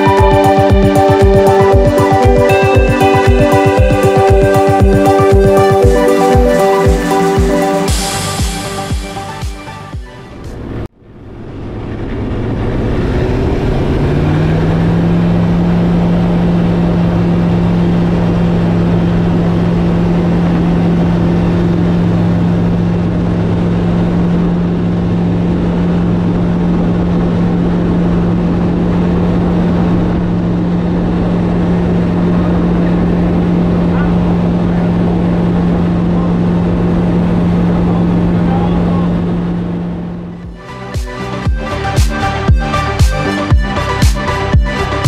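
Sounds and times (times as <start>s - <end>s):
light aircraft engine full power: 0.0s - 45.0s.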